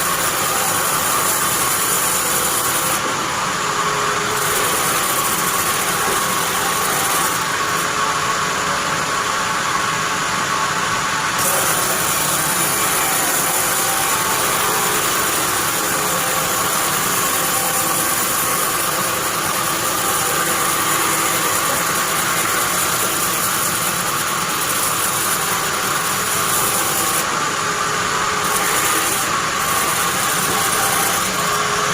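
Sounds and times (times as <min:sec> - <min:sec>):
band saw mechanical drone: 0:00.0 - 0:31.9.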